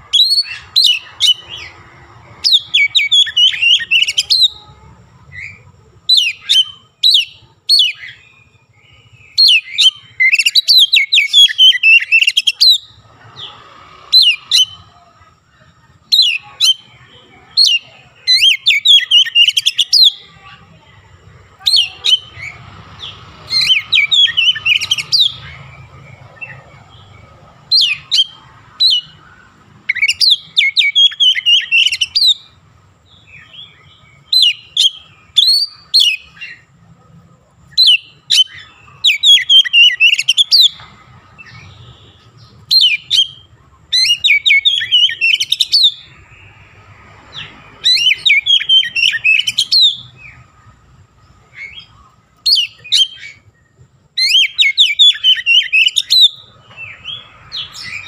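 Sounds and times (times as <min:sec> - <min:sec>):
songbird whistling and chattering: 0:00.0 - 0:37.0, 0:37.6 - 0:46.7, 0:47.3 - 0:58.0.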